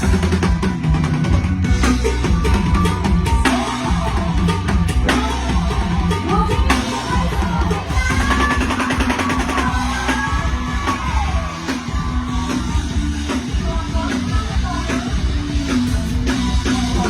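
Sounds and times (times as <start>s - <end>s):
live band with drum kit and bass: 0.0s - 17.0s
sung lead melody: 0.0s - 17.0s.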